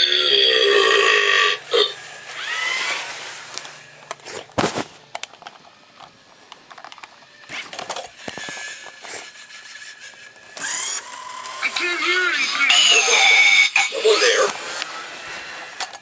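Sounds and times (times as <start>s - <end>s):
toy robot motors whirring: 0.0s - 16.0s.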